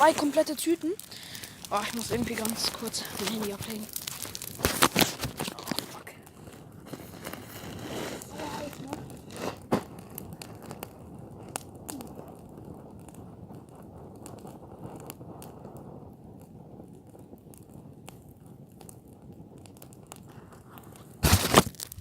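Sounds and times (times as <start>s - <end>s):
low steady rush of fire: 0.0s - 22.0s
wood fire crackling and popping: 0.0s - 22.0s.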